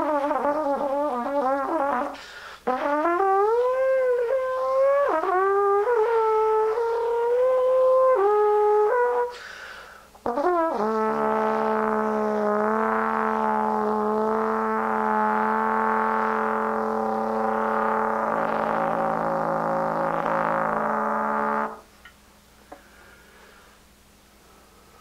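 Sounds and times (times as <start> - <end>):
solo trombone: 0.0 - 22.0.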